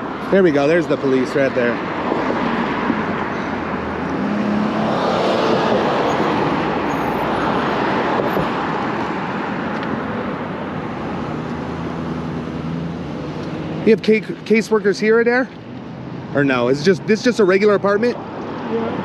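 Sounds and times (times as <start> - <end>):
street traffic rush: 0.0 - 19.0.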